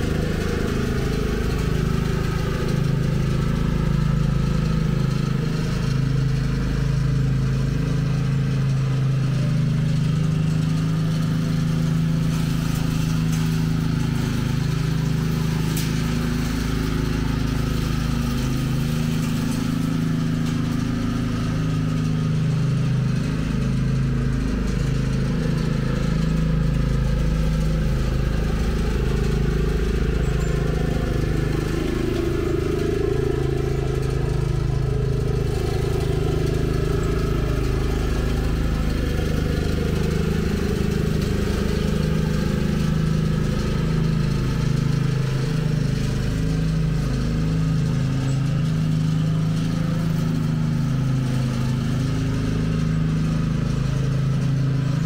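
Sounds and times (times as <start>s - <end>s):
riding lawn mower engine: 0.0s - 55.0s.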